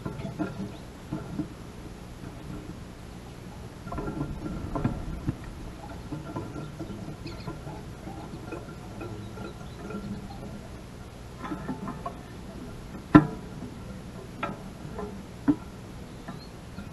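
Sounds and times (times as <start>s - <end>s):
low outdoor rumble: 0.0s - 16.9s.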